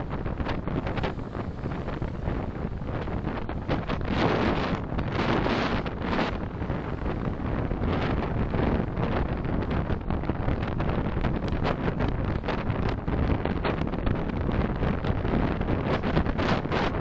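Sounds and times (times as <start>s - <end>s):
car road and wind rumble: 0.0s - 17.0s
wind buffeting microphone: 0.0s - 17.0s.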